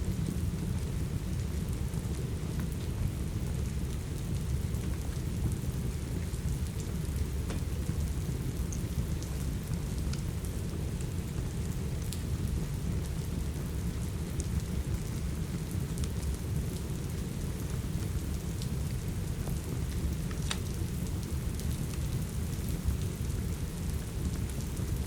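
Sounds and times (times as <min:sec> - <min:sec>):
steady rain: 0:00.0 - 0:25.0
wood fire crackling and popping: 0:00.2 - 0:12.4, 0:13.1 - 0:25.0.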